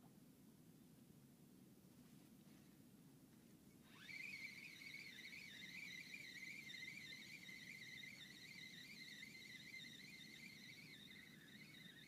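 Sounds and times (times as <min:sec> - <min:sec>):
faint low background noise: 0:00.0 - 0:12.0.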